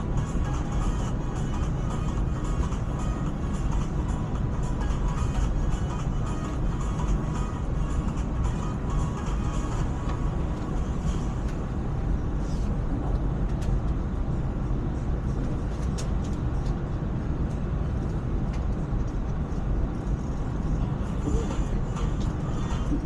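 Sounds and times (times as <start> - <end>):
electric train running: 0.0 - 23.0.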